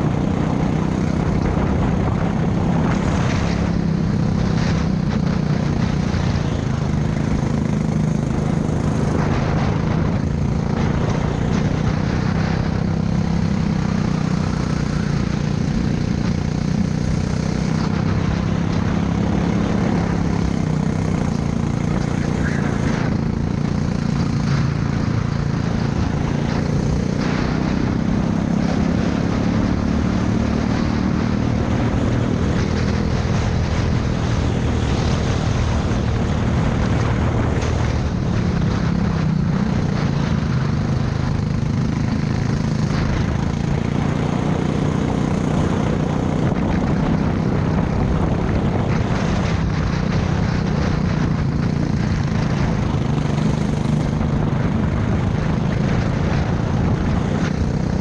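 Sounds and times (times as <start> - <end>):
go-kart engine running hard: 0.0 - 58.0
rush of noise: 0.0 - 58.0.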